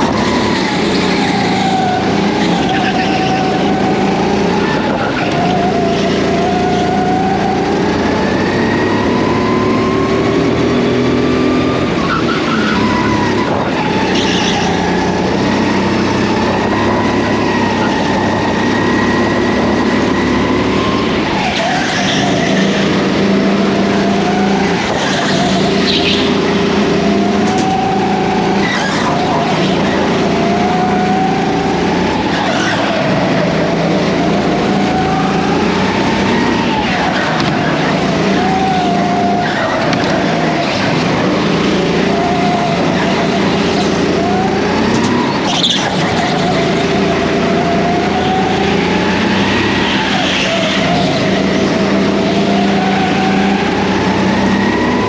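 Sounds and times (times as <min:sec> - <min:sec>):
go-kart motors revving: 0:00.0 - 0:55.0.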